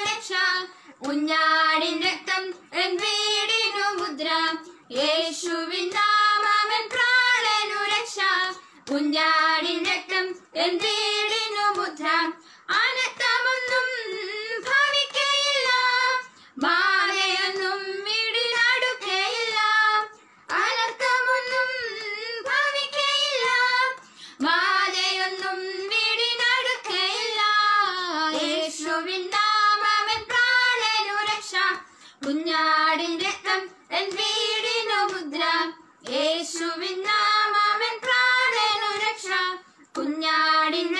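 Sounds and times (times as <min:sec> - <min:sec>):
women singing unaccompanied: 0:00.0 - 0:40.9.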